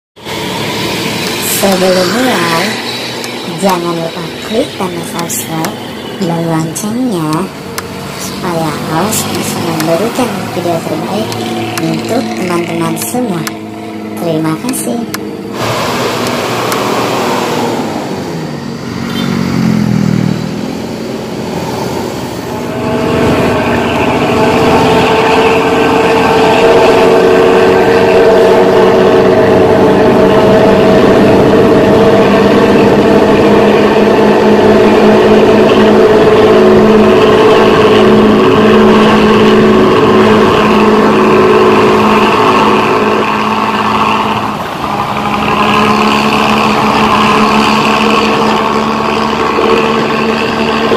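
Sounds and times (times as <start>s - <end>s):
motorcycle engine revving: 0.2s - 50.9s.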